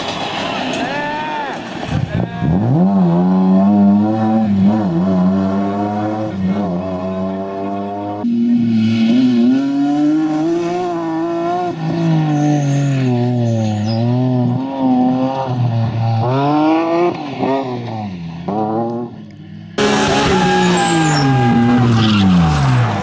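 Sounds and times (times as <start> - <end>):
rally car engine revving: 1.5 - 23.0.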